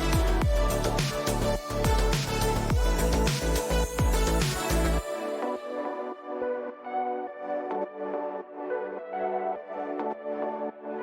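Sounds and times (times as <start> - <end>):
soft electronic music: 0.0 - 11.0.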